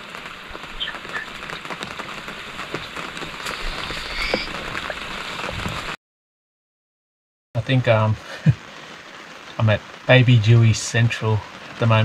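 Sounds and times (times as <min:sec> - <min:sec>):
rain on boat and water: 0:00.0 - 0:06.0, 0:07.6 - 0:12.0.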